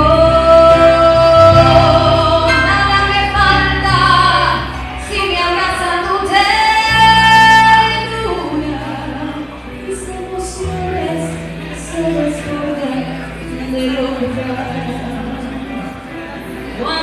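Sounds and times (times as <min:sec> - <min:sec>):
woman singing: 0:00.0 - 0:15.9
backing music with bass: 0:00.0 - 0:17.0.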